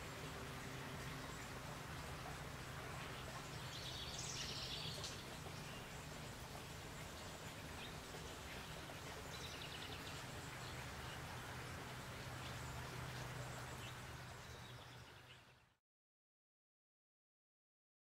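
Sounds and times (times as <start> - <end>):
steady low hum and hiss: 0.0 - 15.8.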